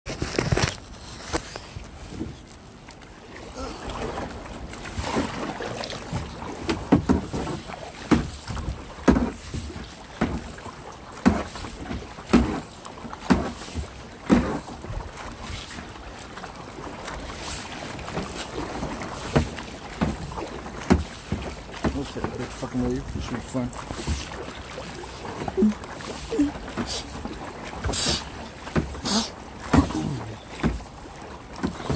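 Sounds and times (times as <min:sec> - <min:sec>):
paddle strokes splashing water: 0:00.1 - 0:31.9.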